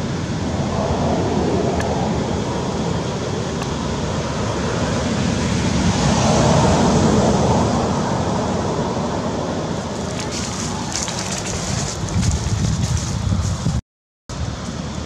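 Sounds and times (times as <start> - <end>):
wind buffeting microphone: 0.2 - 13.8.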